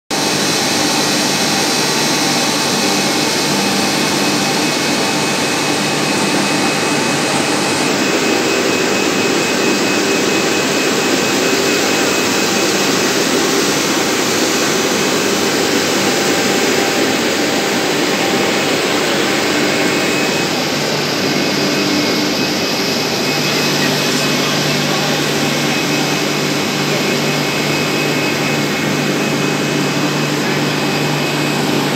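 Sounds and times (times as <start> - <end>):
production line machinery rush: 0.1 - 31.9.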